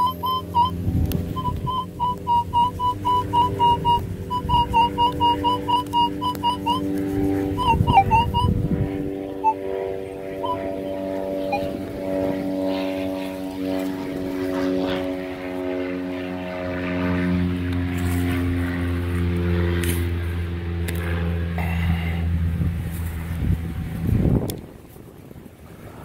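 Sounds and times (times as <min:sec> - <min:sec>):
propeller airplane engine drone: 0:00.0 - 0:26.0.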